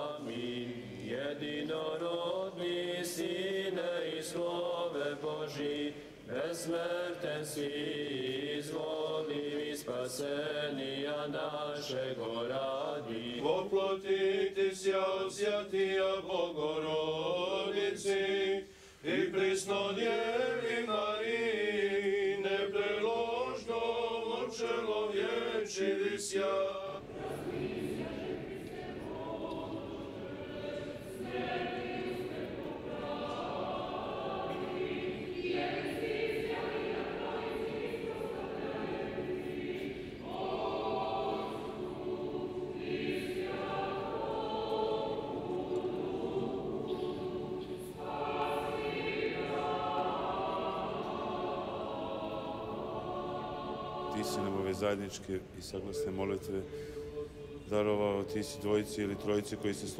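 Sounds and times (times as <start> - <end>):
choir holding long notes: 0.0 - 59.9
men chanting a cappella: 0.0 - 59.9.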